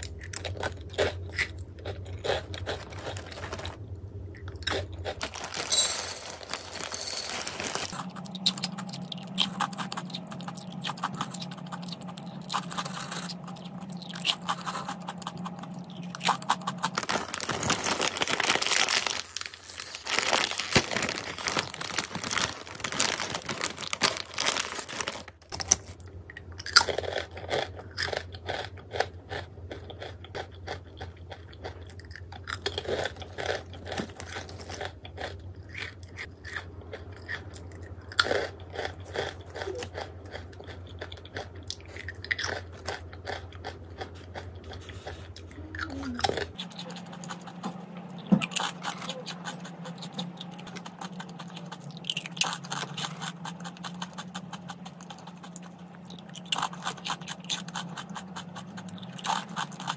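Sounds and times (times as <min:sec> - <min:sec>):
crunching and chewing crisp food: 0:00.0 - 0:59.9.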